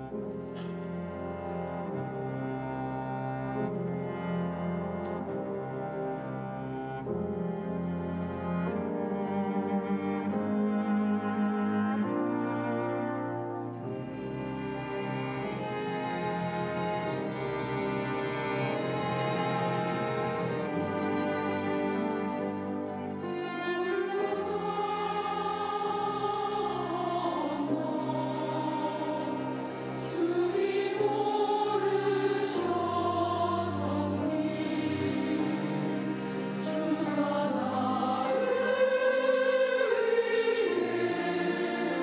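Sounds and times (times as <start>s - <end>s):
choir singing: 0.0s - 42.0s
orchestra bowed strings: 0.0s - 42.0s.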